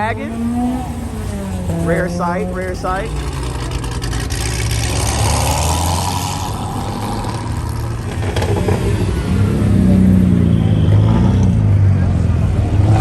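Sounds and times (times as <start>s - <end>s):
car engine rumbling and revving: 0.0s - 13.0s.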